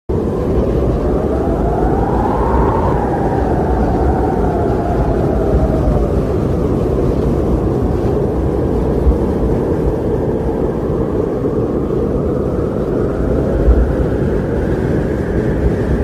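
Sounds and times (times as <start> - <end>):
blizzard wind around a car: 0.1 - 16.0.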